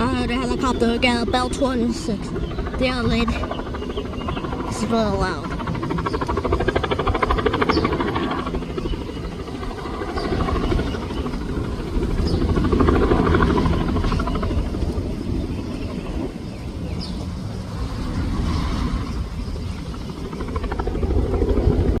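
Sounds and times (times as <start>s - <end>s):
helicopter rotor beating: 0.0s - 22.0s
helicopter turbine running: 0.0s - 22.0s.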